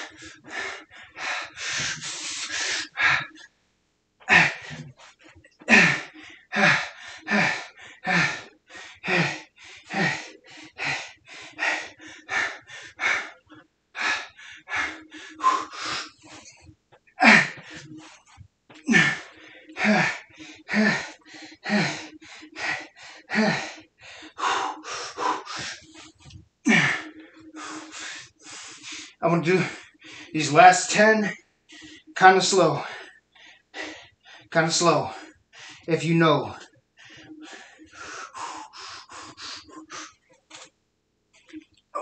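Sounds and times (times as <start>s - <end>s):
man breathing hard: 0.0s - 3.5s, 4.2s - 40.7s.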